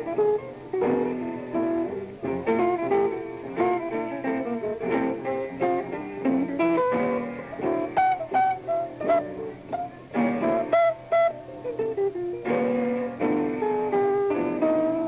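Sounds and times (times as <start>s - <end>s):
jazz trio playing: 0.0s - 15.0s.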